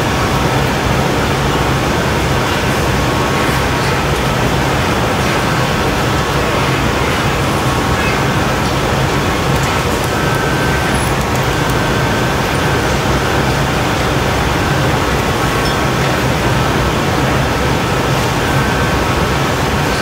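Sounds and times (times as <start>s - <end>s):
gas furnace burners roaring: 0.0s - 20.0s.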